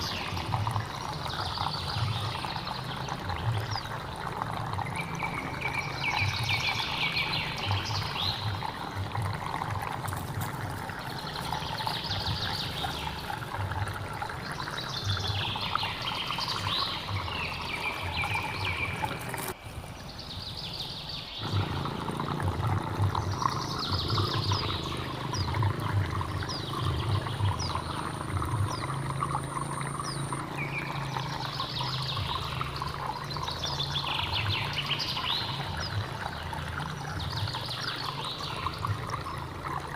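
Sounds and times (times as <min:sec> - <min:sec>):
songbird chirping: 0:00.0 - 0:09.6, 0:14.2 - 0:39.8
water running and trickling: 0:00.0 - 0:39.9.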